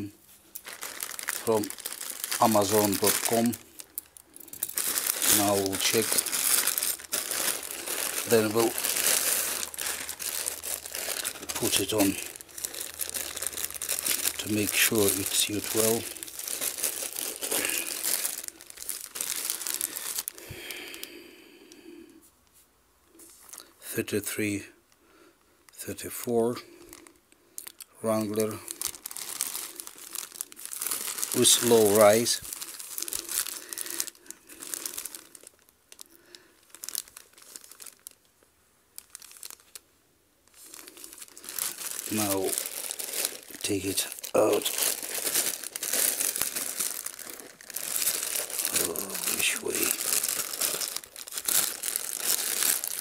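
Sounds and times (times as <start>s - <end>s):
plastic bag crinkling: 0.0s - 21.1s, 23.3s - 23.8s, 26.8s - 38.4s, 39.0s - 39.8s, 40.4s - 53.0s.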